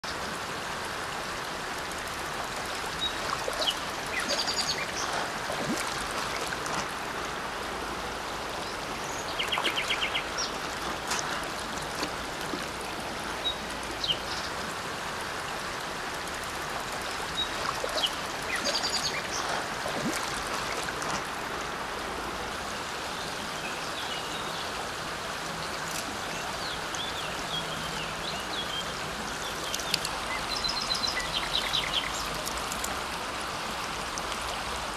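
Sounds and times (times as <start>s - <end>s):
shallow river water flowing: 0.0s - 34.9s.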